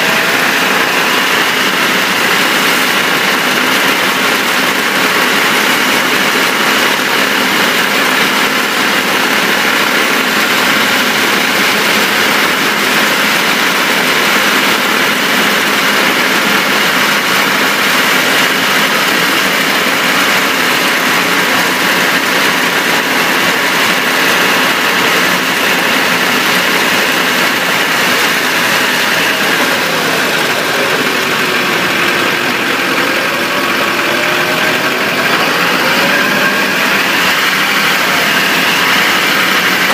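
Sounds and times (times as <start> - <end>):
driveshaft whine: 0.0 - 39.9
road noise rush: 0.0 - 39.9.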